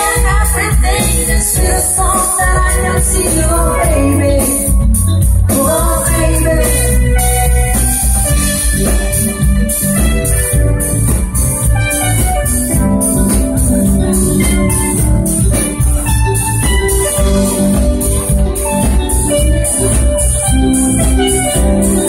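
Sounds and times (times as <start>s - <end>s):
drum kit: 0.0s - 22.0s
electric guitars: 0.0s - 22.0s
heavy bass: 0.0s - 22.0s
keyboard sustained notes: 0.0s - 22.0s.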